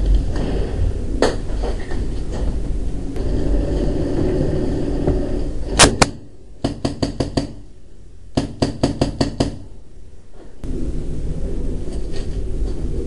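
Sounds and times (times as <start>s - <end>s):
steady rumbling noise: 0.0s - 13.0s.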